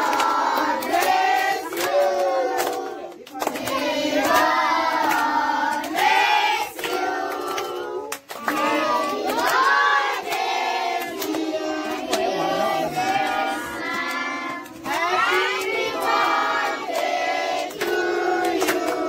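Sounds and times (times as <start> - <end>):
hand clapping: 0.0 - 19.0
children singing: 3.6 - 19.0.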